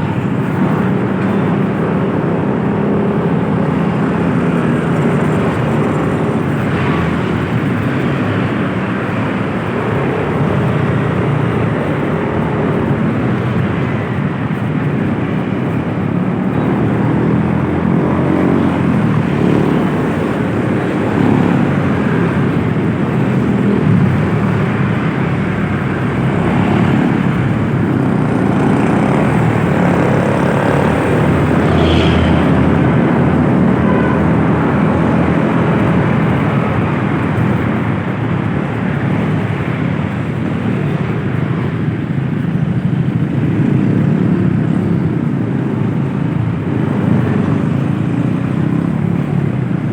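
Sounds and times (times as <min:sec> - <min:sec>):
loud wind noise: 0:00.0 - 0:49.9
road noise: 0:00.0 - 0:49.9
vehicle engine droning: 0:00.0 - 0:49.9.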